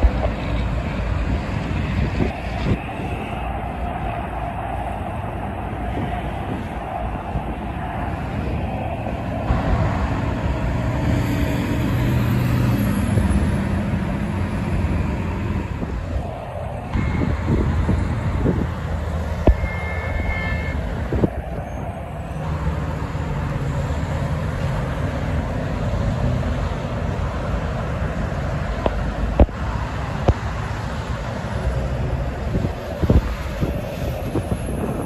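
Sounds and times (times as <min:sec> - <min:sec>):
heavy highway traffic: 0:00.0 - 0:35.0
wind on microphone: 0:00.0 - 0:35.0.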